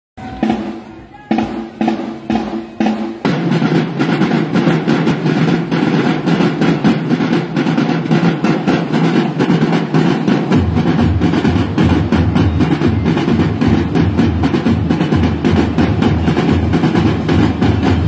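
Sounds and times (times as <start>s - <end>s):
marching drums playing: 0.2s - 18.0s.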